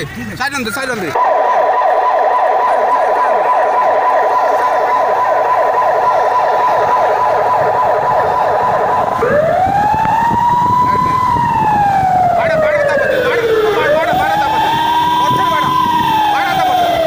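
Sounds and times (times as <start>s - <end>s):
vehicle siren yelping and wailing: 1.1s - 17.0s.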